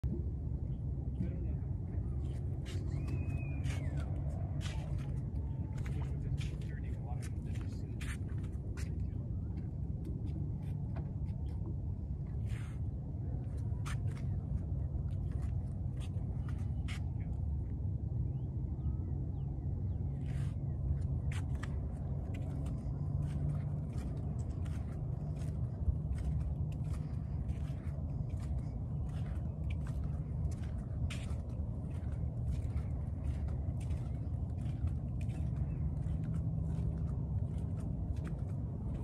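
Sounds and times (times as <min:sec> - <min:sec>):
low rumble: 0:00.0 - 0:39.0
footsteps on wooden boardwalk: 0:02.1 - 0:17.7, 0:19.8 - 0:39.0.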